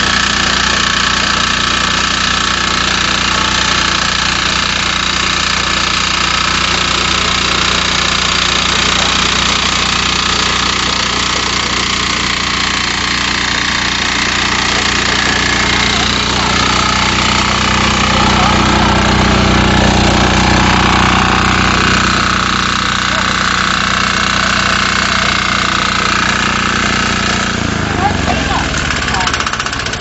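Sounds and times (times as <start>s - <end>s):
engine running loudly: 0.0s - 30.0s.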